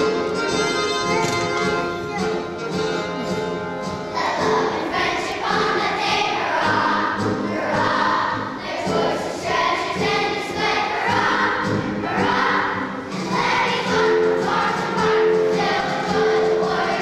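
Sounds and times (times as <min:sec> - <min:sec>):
children's choir singing: 0:00.0 - 0:17.0
instrumental music: 0:00.0 - 0:17.0.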